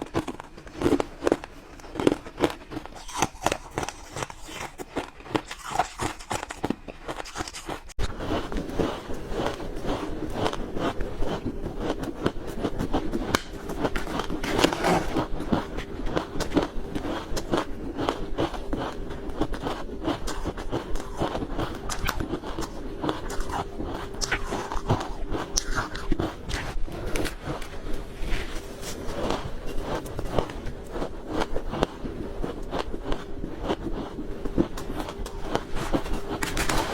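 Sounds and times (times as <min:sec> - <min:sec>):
ice being chewed: 0:00.0 - 0:36.9.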